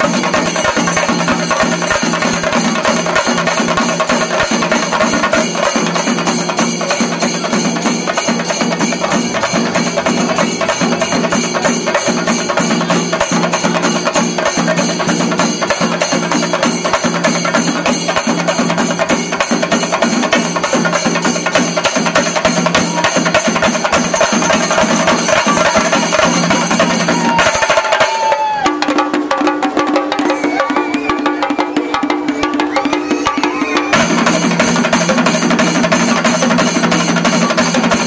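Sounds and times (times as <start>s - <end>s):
drums beaten with sticks: 0.0s - 38.0s.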